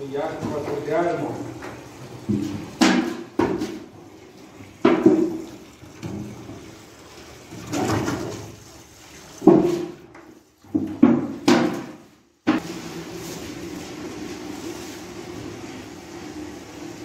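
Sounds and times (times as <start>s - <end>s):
dough sloshing in mixer: 0.0s - 17.0s.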